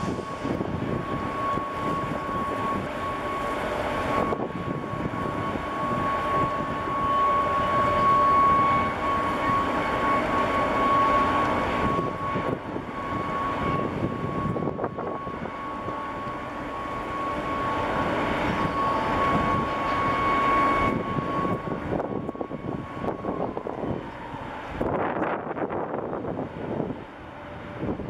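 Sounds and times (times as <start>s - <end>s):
constant high whine: 0.0s - 28.0s
ship machinery rumble: 0.0s - 28.0s.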